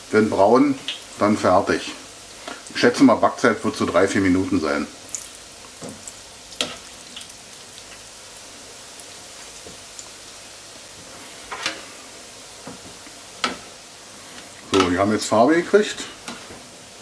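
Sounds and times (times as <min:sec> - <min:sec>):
oil sizzling in deep fryer: 0:00.0 - 0:17.0.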